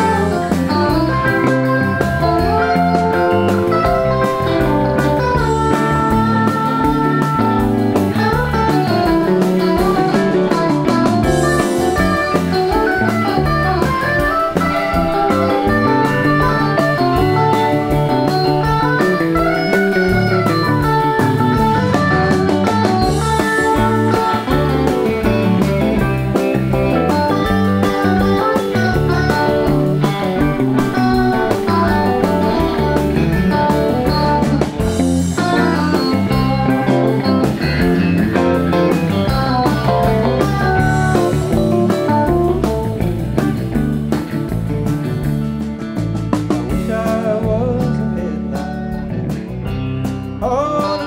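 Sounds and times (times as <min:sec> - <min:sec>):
bass guitar: 0:00.0 - 0:51.0
drums: 0:00.0 - 0:51.0
electric guitar lead: 0:00.0 - 0:51.0.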